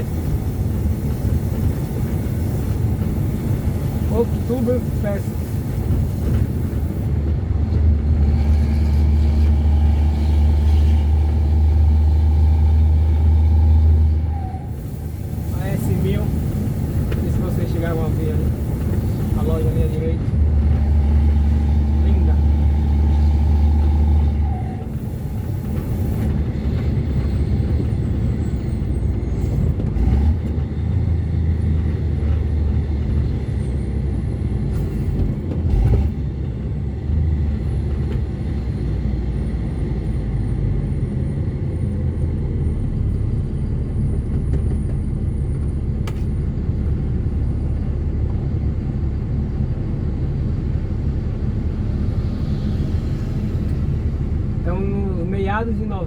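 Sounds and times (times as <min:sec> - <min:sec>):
truck diesel engine drone: 0:00.0 - 0:56.0.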